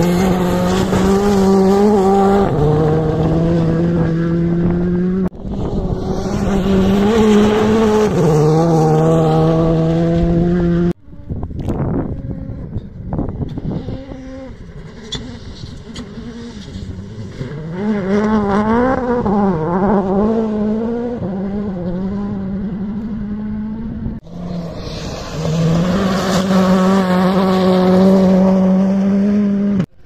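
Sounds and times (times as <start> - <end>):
rally car engine high-revving: 0.0 - 30.0.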